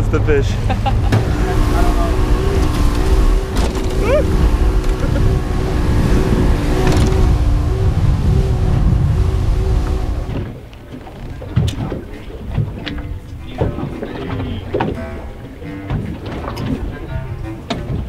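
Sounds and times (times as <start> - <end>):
motorboat engine drone: 0.0 - 18.0
wind rumble on microphone: 0.0 - 18.0.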